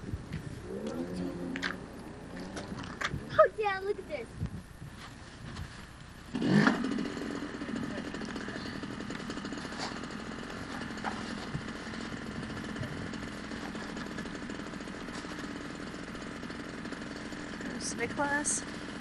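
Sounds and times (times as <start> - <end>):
small engine starting and idling: 0.7 - 4.0, 6.2 - 19.0.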